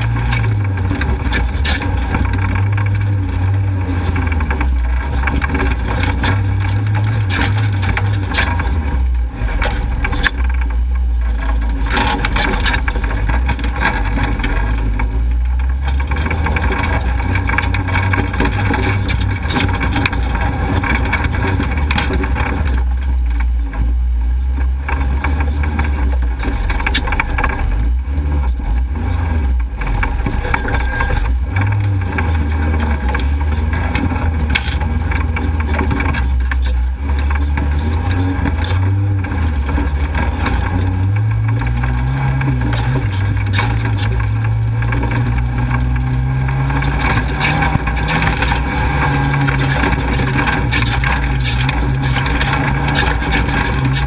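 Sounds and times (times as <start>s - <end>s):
knocks from rough trail: 0.0s - 54.0s
off-road vehicle engine revving: 0.0s - 54.0s.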